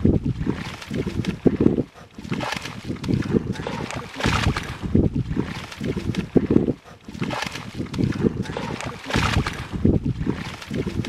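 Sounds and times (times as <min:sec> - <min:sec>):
fish splashing in mud and water: 0:00.0 - 0:11.0.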